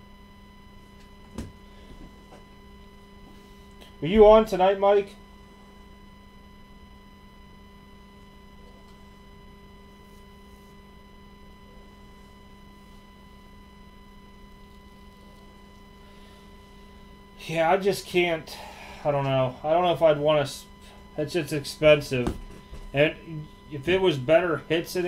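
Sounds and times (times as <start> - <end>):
electrical hum: 0.0 - 25.0
faint high steady tones: 0.0 - 25.0.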